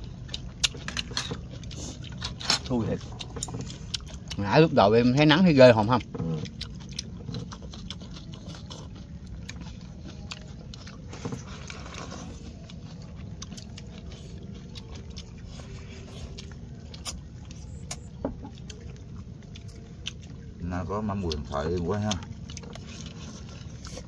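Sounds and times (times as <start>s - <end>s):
chewing: 0.0s - 24.0s
low background rumble: 0.0s - 24.0s.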